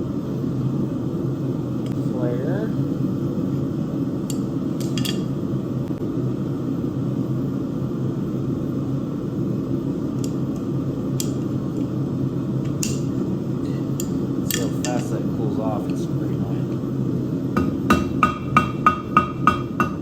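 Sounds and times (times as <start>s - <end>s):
forge fire and blower rushing: 0.0s - 20.0s.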